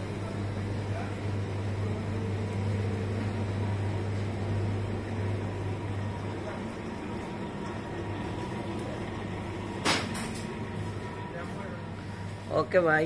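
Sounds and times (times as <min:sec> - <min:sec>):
refrigeration and air conditioning hum: 0:00.0 - 0:13.0.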